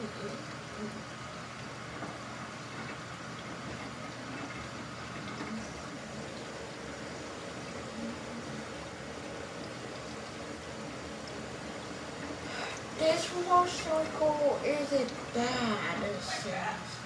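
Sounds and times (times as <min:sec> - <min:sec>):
washing machine water churning: 0:00.0 - 0:17.0.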